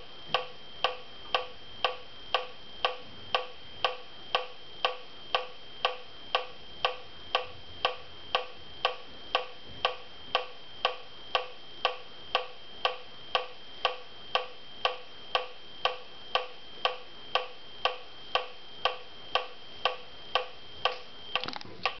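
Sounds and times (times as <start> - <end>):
digital metronome clicking: 0.4 - 22.0.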